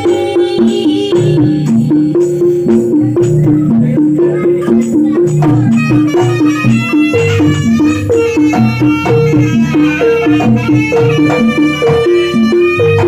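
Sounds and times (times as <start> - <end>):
drums: 0.0 - 13.0
high held melody: 0.0 - 13.0
traditional ensemble music: 0.0 - 13.0.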